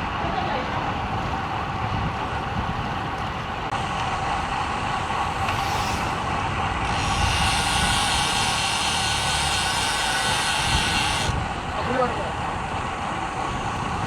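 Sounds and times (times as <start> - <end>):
bike tyre noise on road: 1.1 - 14.0
wind on microphone: 1.2 - 14.0.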